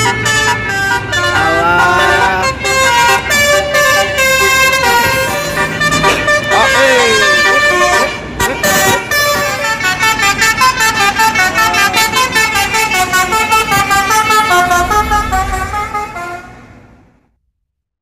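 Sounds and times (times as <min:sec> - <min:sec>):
musical air horn tune: 0:00.0 - 0:16.8
bus engine rumble: 0:00.0 - 0:17.3.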